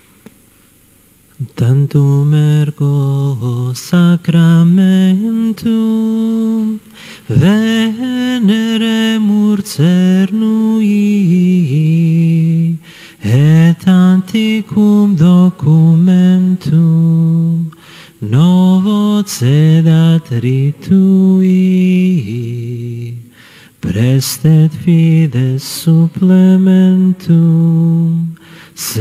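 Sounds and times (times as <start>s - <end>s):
voices singing a slow hymn: 1.4s - 29.0s.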